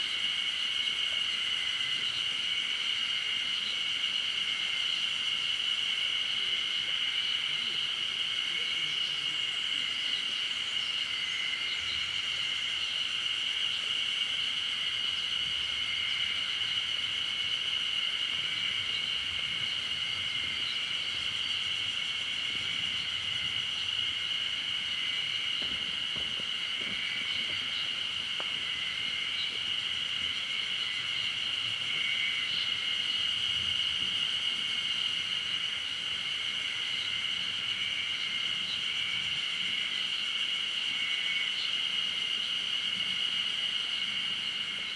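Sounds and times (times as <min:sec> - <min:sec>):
insects droning chorus: 0:00.0 - 0:44.9.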